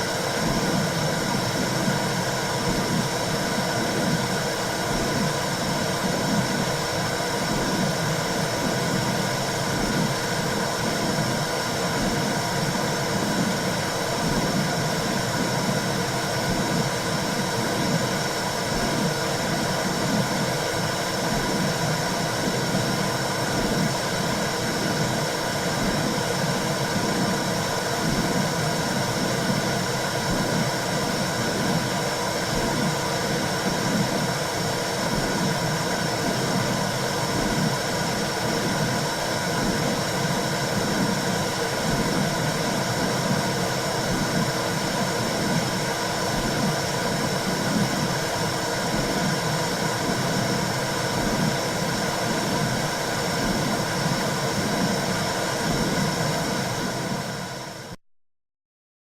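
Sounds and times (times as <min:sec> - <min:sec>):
rushing white noise: 0:00.0 - 0:58.0
soft low throb: 0:00.1 - 0:57.6.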